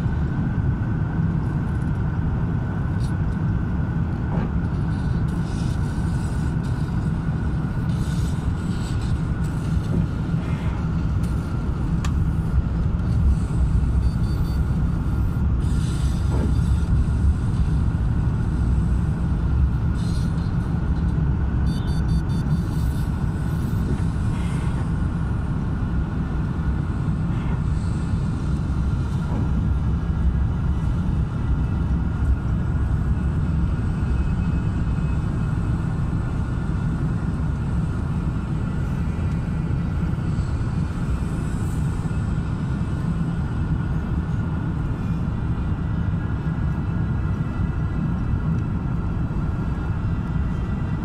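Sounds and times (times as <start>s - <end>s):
airliner cabin engine rumble: 0.0s - 51.0s
faint steady whine: 0.0s - 51.0s.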